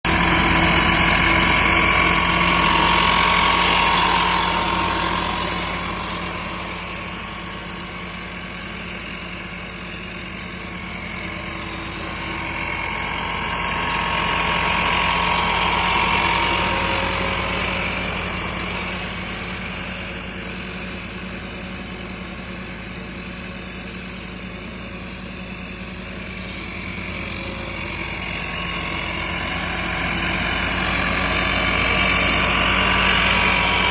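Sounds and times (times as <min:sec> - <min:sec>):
lawn mower engine running: 0:00.0 - 0:33.9.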